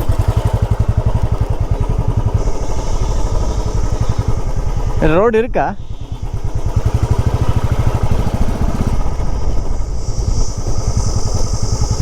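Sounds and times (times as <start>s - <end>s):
faint high-pitched whine: 0.0s - 12.0s
motorcycle engine running: 0.0s - 12.0s.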